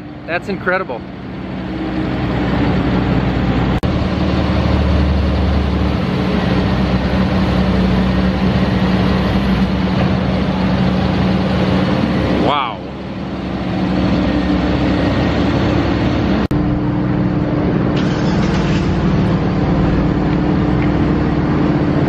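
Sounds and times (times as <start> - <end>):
blower engine droning: 0.0 - 22.0.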